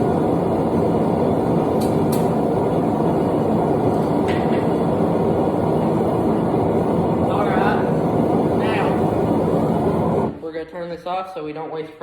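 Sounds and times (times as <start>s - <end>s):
forge burner roaring: 0.0s - 11.2s.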